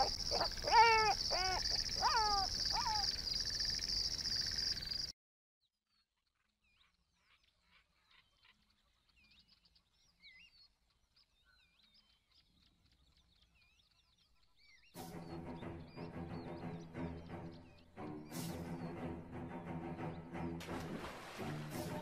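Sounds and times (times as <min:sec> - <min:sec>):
small birds chirping: 0:00.0 - 0:05.1, 0:05.7 - 0:19.2.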